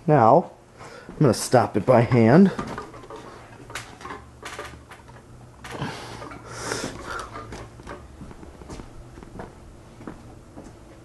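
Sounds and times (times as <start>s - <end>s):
knocks and rustles of fan handled: 1.1s - 10.8s.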